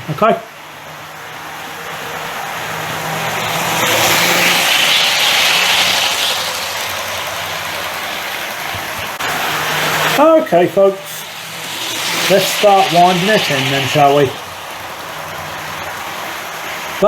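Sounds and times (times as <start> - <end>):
faint motor hum: 0.0 - 10.2, 10.8 - 17.0
model train wheels on rail: 0.0 - 17.0.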